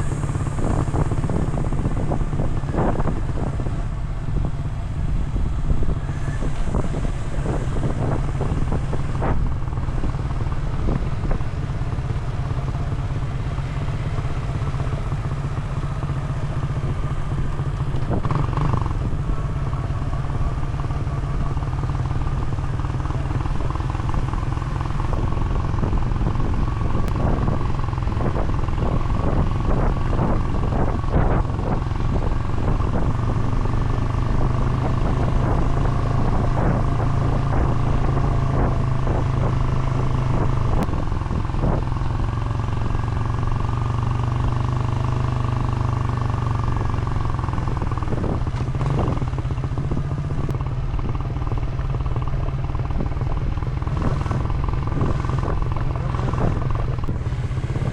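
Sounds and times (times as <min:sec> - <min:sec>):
road and wind noise: 0:00.0 - 0:57.9
vehicle engine running: 0:00.0 - 0:57.9.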